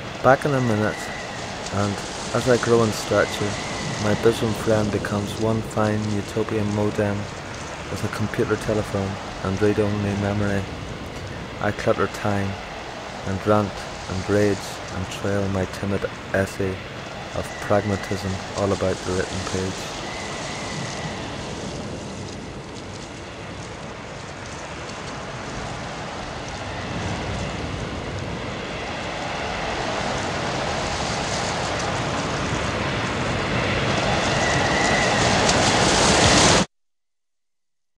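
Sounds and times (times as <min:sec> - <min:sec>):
dense rushing noise: 0:00.0 - 0:36.7.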